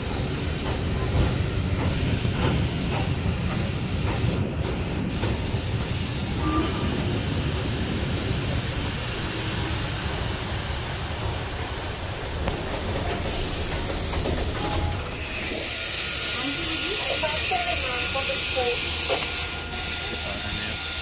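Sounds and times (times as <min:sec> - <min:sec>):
steam hiss: 0:00.0 - 0:21.0
steam train rumble: 0:00.0 - 0:21.0.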